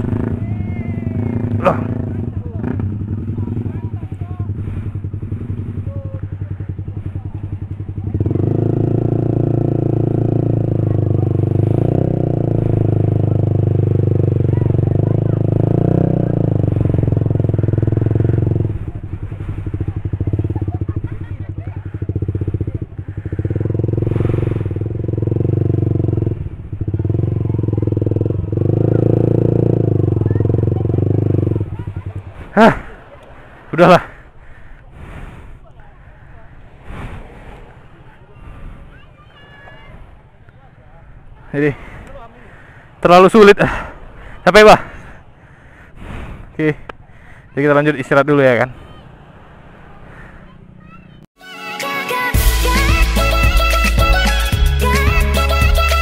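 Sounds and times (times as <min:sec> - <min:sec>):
motorcycle engine idling and revving: 0:00.0 - 0:51.4.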